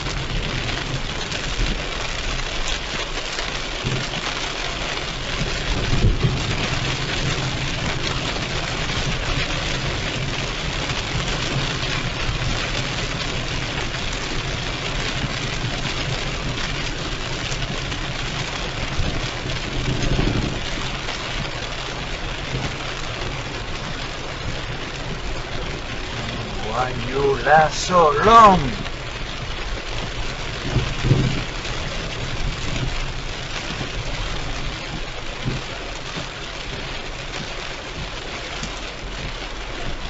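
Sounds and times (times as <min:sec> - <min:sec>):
heavy rain on a car: 0:00.0 - 0:40.0
tyres on wet road: 0:00.0 - 0:40.0.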